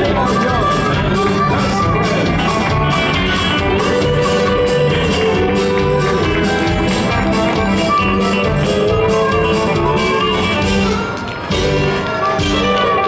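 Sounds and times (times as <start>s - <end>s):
music with held notes over a beat: 0.0s - 13.0s.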